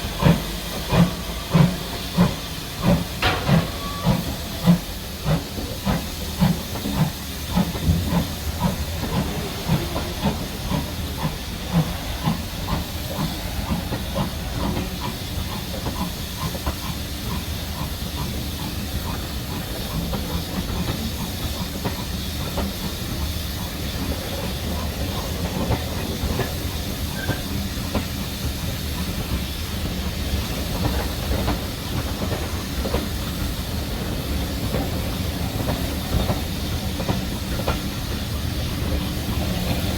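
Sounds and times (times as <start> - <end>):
steam hissing: 0.0 - 39.9
steam locomotive exhaust beats: 0.0 - 39.9
train rumbling: 0.0 - 39.9.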